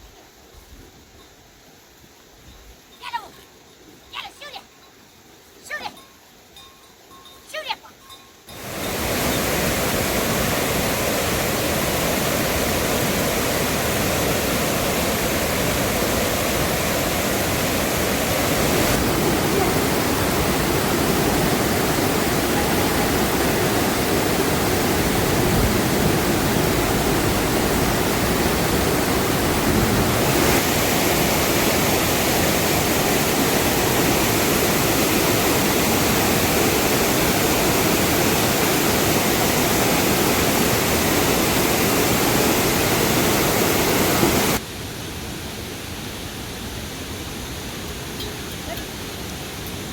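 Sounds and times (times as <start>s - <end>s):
rushing hiss of water: 8.4s - 49.9s.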